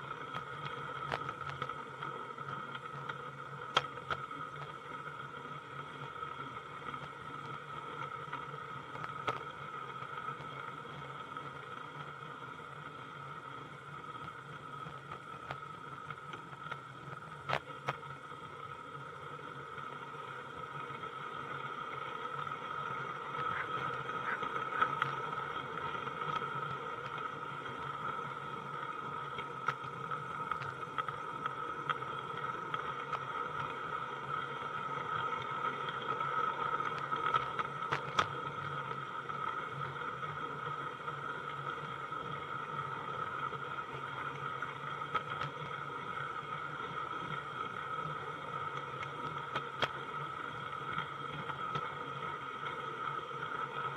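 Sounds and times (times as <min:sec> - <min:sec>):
model train whine and hum: 0:00.0 - 0:53.9.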